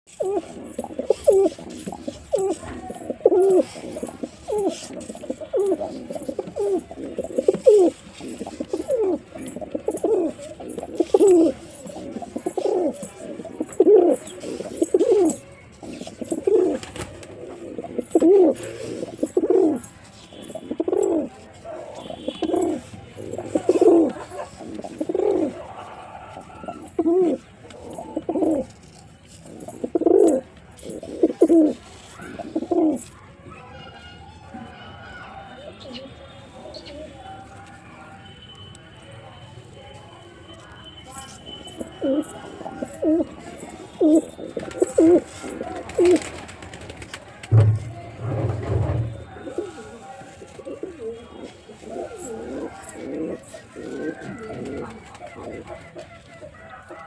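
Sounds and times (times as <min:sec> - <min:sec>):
pigeon cooing: 0:00.1 - 0:33.2, 0:41.6 - 0:57.0.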